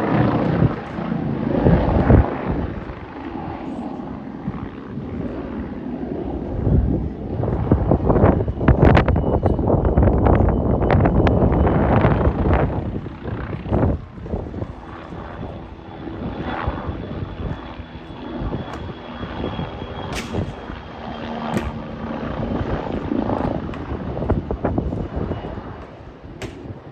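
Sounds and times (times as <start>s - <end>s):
helicopter rotor and engines: 0.0s - 26.9s
thin steady whine: 0.0s - 26.9s.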